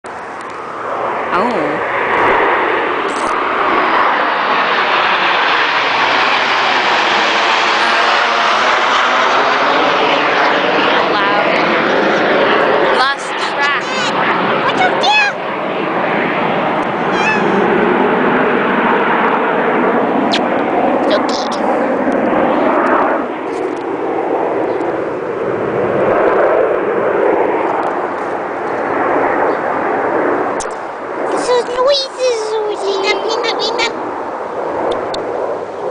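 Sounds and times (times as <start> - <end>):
jets flying past: 0.1 - 35.9.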